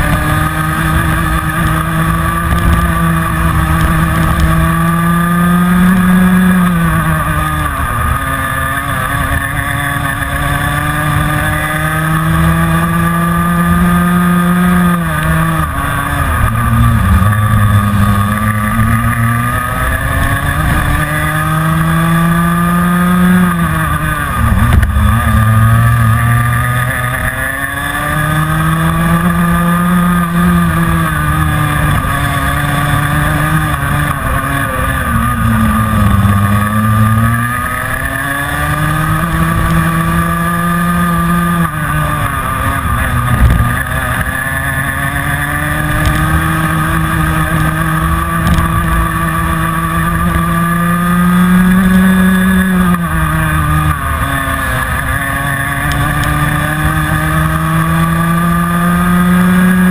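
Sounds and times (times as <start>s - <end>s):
kart engine at racing speed: 0.0s - 59.9s.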